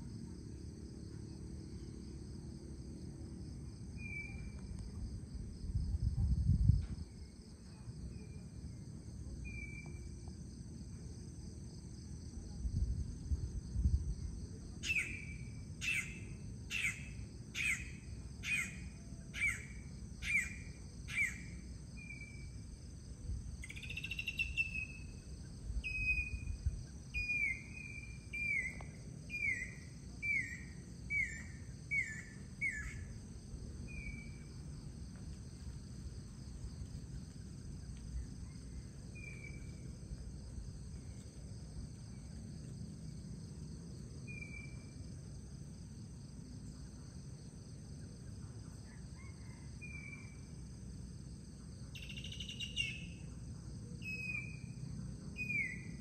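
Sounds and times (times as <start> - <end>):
crickets and insects trilling: 0.0 - 56.0.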